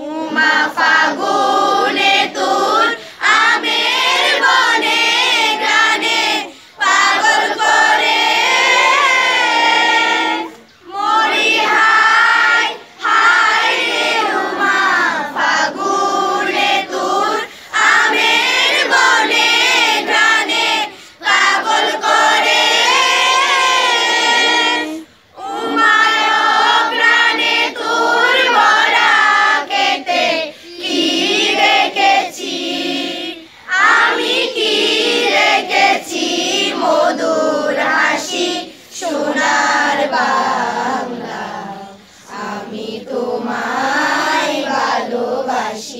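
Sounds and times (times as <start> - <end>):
children singing in unison: 0.0 - 45.9.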